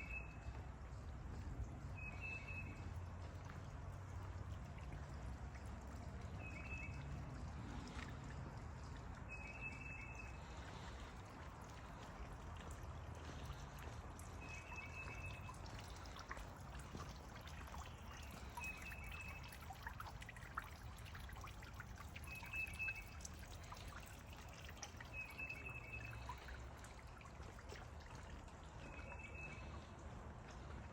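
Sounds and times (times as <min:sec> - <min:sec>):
stream trickling: 0:00.0 - 0:30.9.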